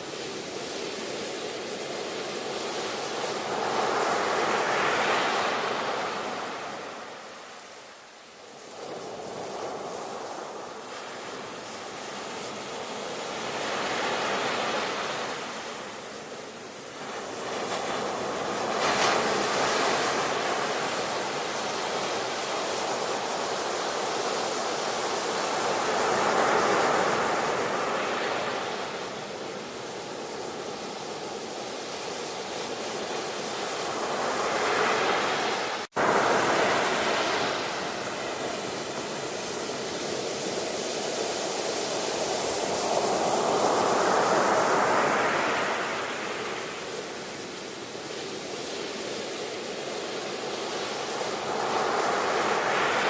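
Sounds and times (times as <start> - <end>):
ocean waves breaking: 8.5 - 53.0.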